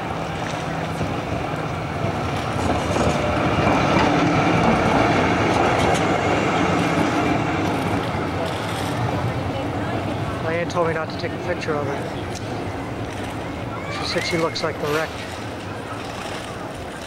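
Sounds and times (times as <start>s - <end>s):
tram wheels on rails: 0.0s - 17.0s.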